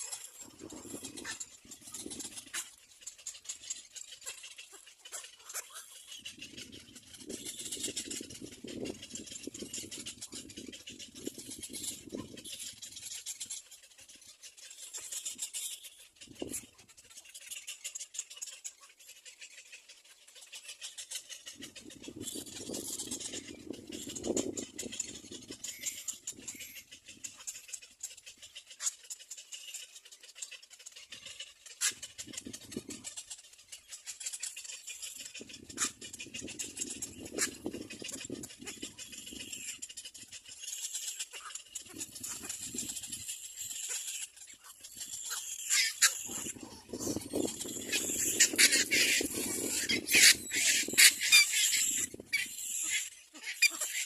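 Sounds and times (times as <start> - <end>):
nestlings begging chatter: 0.0 - 54.0.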